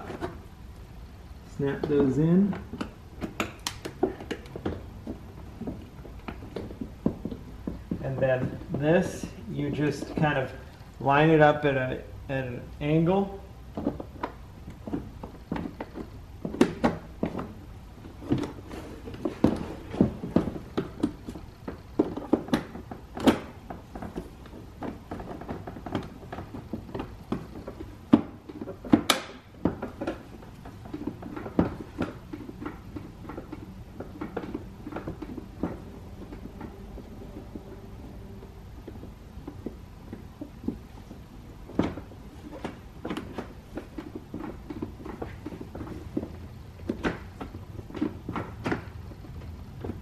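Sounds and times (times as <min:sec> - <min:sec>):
hard plastic knocks and rattles: 0:00.0 - 0:11.6, 0:12.5 - 0:50.0.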